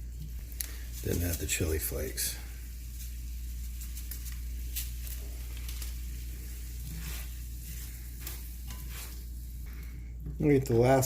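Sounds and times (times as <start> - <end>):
pasta sauce sizzling in pan: 0.0 - 9.9
light crackles: 0.0 - 10.8
steady low hum: 0.0 - 11.0.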